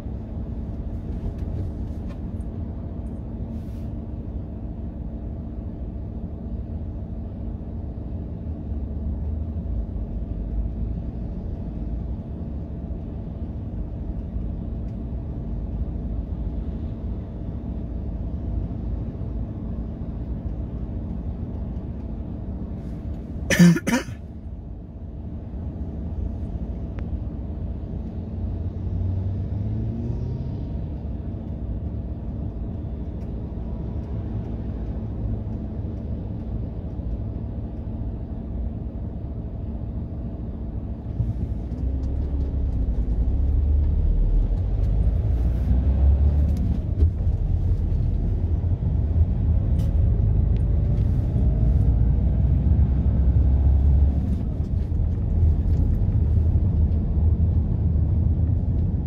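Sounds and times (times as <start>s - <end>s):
van engine idling and driving: 0.0s - 59.0s.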